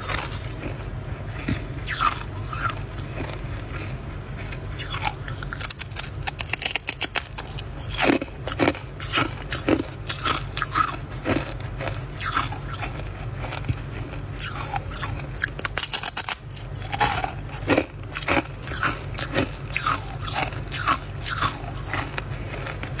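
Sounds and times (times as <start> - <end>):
frost being chewed: 0.0 - 23.0.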